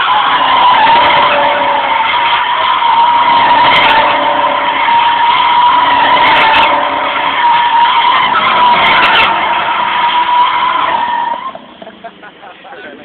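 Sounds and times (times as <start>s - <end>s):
tires screeching: 0.0s - 12.4s.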